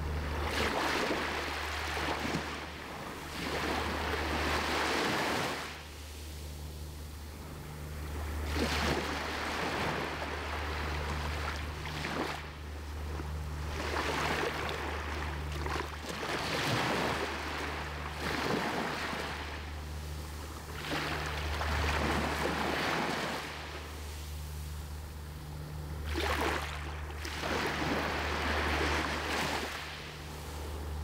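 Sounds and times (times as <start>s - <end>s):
small waves breaking on sand: 0.0s - 6.3s, 8.0s - 25.2s, 26.0s - 30.7s.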